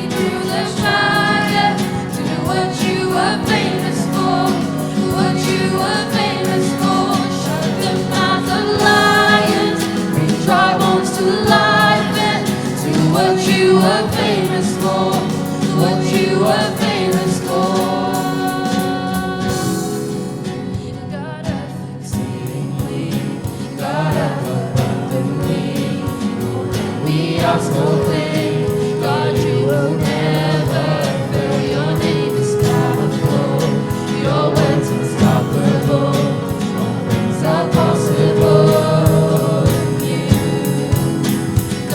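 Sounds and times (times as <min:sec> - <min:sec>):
instrumental accompaniment: 0:00.0 - 0:41.9
voices singing together: 0:00.0 - 0:41.9.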